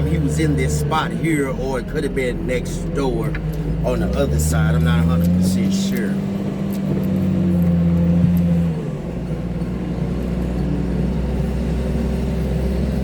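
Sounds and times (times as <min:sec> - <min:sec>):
vehicle engine driving: 0:00.0 - 0:13.0.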